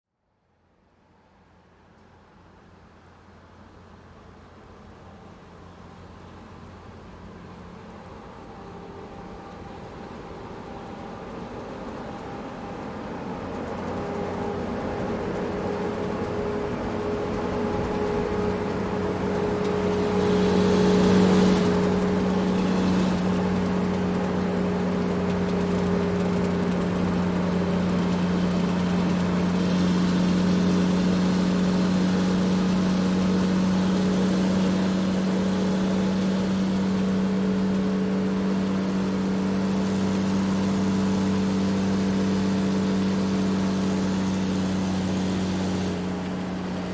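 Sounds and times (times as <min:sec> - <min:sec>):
truck engine humming: 0:07.0 - 0:46.9.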